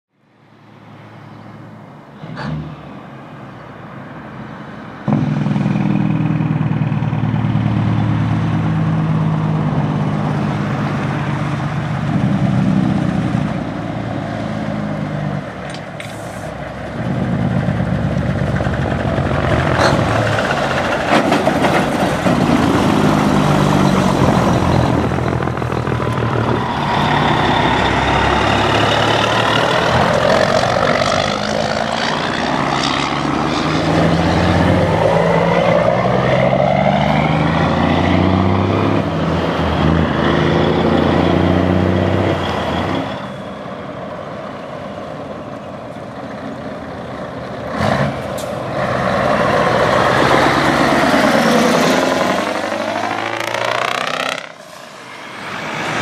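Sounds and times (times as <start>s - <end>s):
diesel truck engines: 0.1s - 56.0s.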